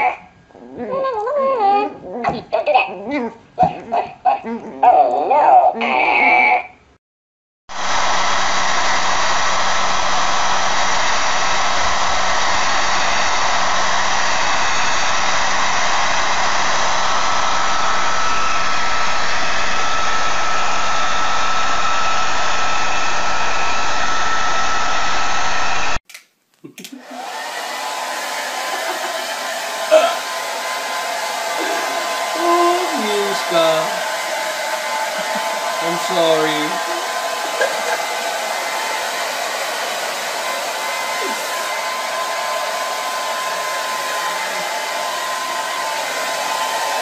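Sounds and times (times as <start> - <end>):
hair dryer running: 7.7 - 26.0, 27.0 - 47.0.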